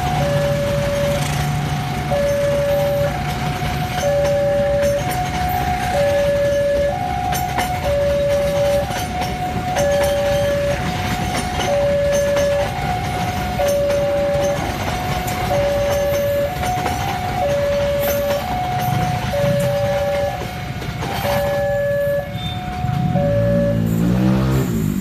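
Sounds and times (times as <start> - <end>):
level crossing two-tone alarm: 0.0 - 24.7
train rumbling past: 0.0 - 25.0
train wheel clicks: 0.1 - 23.2.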